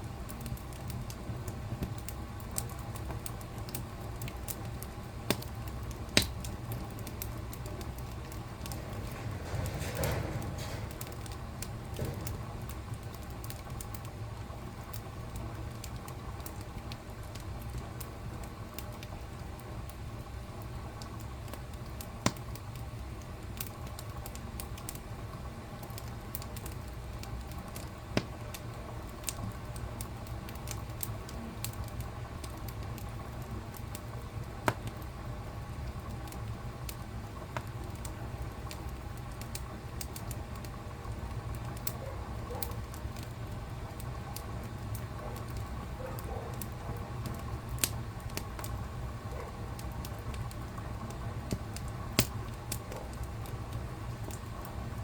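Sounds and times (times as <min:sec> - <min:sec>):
flames rumbling: 0:00.0 - 0:55.0
wood fire crackling and popping: 0:00.0 - 0:55.0.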